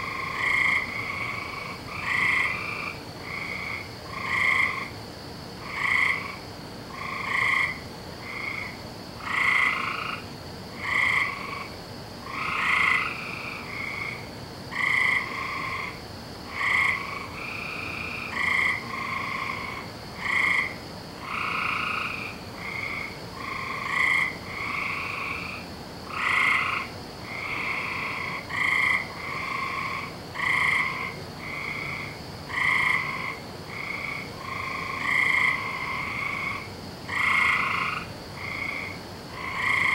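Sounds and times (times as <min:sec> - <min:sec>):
faint high-pitched hiss: 0:00.0 - 0:39.9
frogs croaking: 0:00.0 - 0:39.9.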